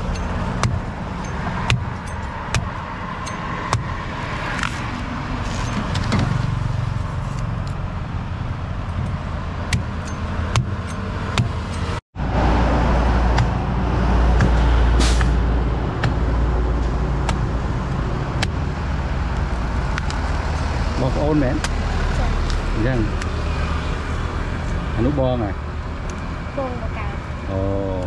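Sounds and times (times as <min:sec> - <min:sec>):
heavy vehicle passing: 0:00.0 - 0:28.0
road traffic passing: 0:00.0 - 0:28.0.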